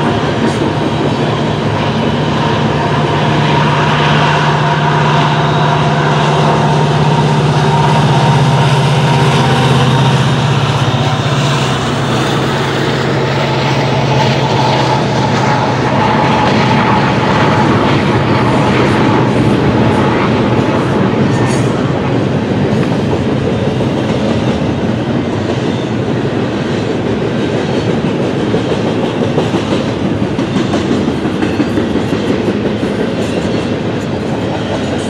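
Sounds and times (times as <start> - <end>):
diesel locomotive engine drone: 0.0 - 35.0
steel wheels rumbling on rails: 0.0 - 35.0.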